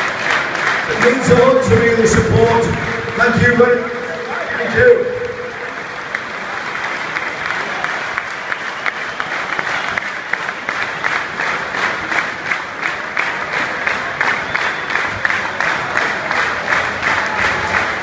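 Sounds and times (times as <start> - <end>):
stadium crowd applauding: 0.0 - 18.0.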